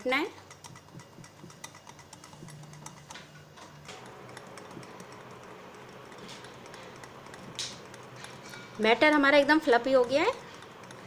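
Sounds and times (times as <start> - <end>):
utensil scraping mixing bowl: 0.0 - 11.0.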